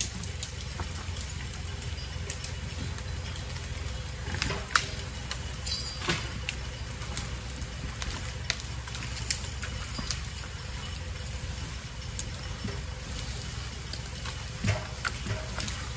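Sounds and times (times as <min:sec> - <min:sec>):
vehicle engine running at low speed: 0:00.0 - 0:15.9.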